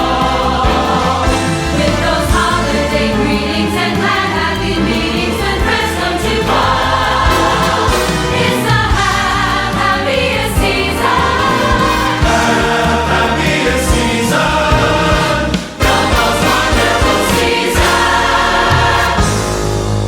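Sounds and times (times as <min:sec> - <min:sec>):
large choir singing: 0:00.0 - 0:20.0
orchestral accompaniment: 0:00.0 - 0:20.0.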